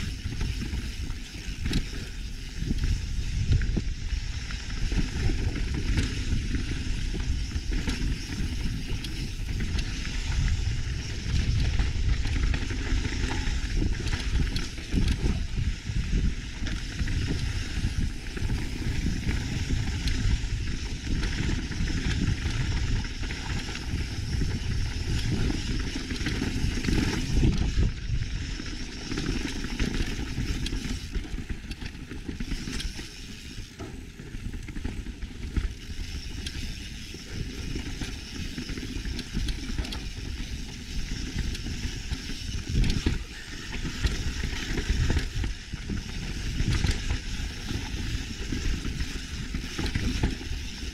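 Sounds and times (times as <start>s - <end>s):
bike rattling and clattering: 0.0s - 50.9s.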